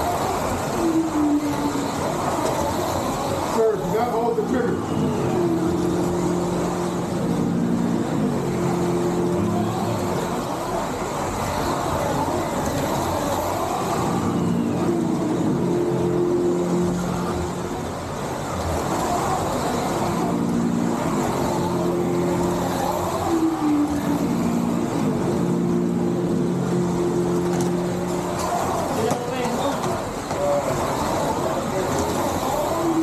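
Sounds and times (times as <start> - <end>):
cars rattling on track: 0.0 - 33.0
slot car motors whining: 0.0 - 33.0.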